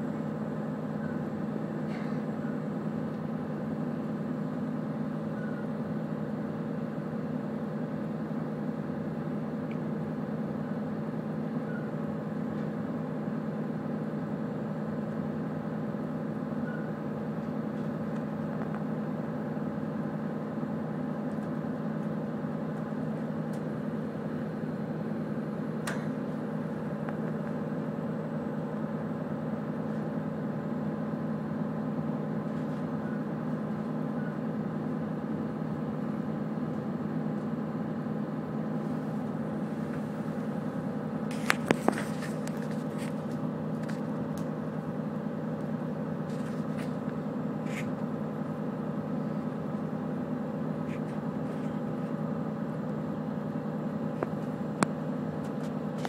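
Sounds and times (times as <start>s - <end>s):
train running rumble and hum: 0.0s - 56.0s.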